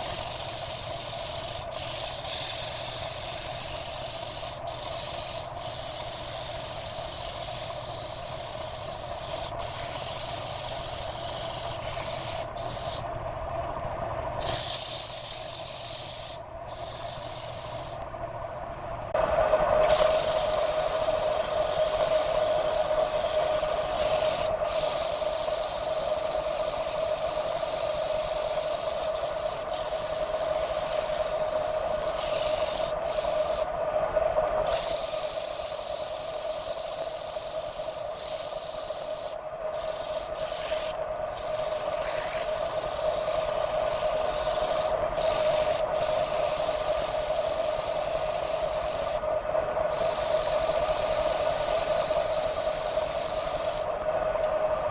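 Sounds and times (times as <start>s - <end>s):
abrasive hissing on spinning wood: 0.0s - 13.1s, 14.4s - 18.0s, 19.7s - 49.3s, 49.9s - 54.0s.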